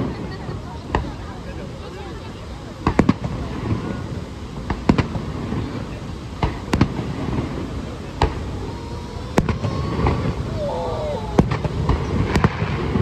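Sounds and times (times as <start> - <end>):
fireworks bursting: 0.0 - 13.0
low background noise: 0.0 - 13.0.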